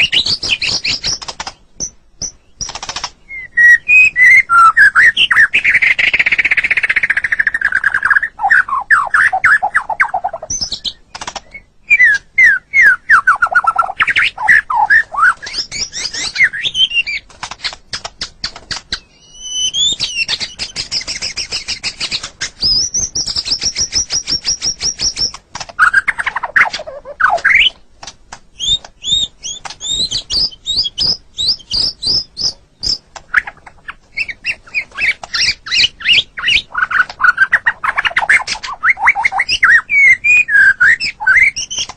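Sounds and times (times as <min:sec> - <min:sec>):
songbird singing varied song: 0:00.0 - 0:27.8, 0:28.5 - 0:41.9.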